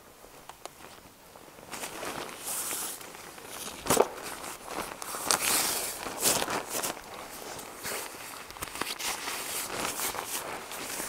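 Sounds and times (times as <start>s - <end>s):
fabric bag rustling: 0.8s - 11.0s.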